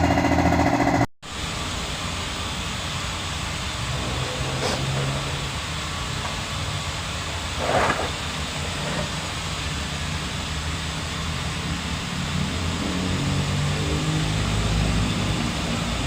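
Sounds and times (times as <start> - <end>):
steady mechanical rumble and hiss: 1.3 - 16.0.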